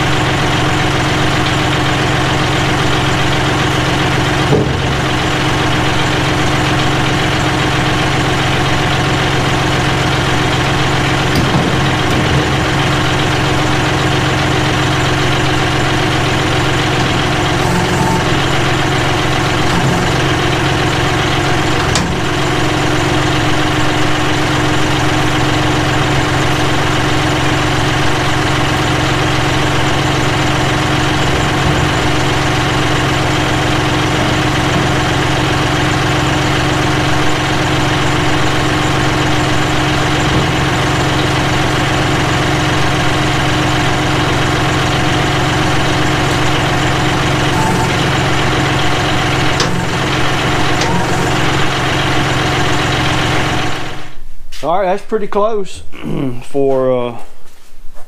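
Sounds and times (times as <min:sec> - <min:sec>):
diesel tractor engine idling: 0:00.0 - 0:54.2.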